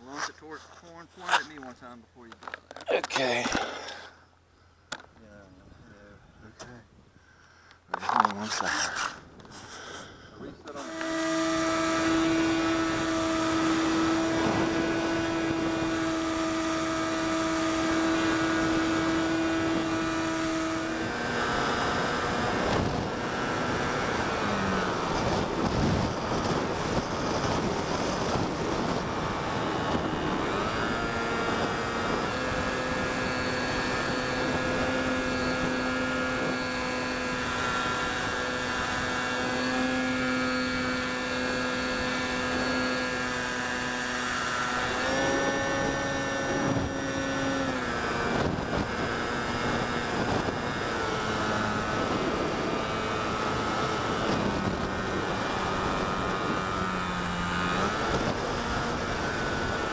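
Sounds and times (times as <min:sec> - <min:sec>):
model airplane motor and propeller: 0:00.0 - 0:06.8, 0:07.4 - 0:59.9.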